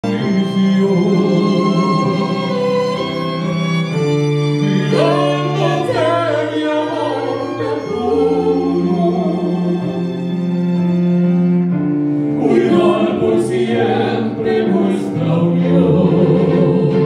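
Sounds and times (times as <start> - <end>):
string ensemble chords: 0.0 - 17.0.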